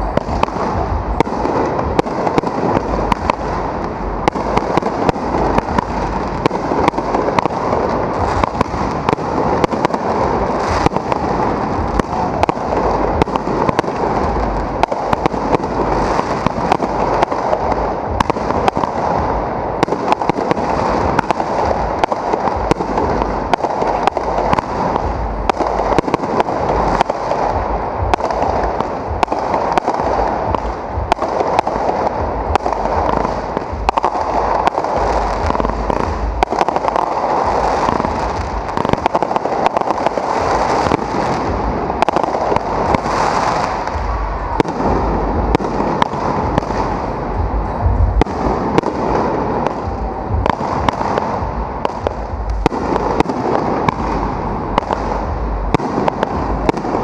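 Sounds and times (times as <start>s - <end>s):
fireworks bangs and crackling: 0.0s - 57.0s
rumble of firework bursts: 0.0s - 57.0s.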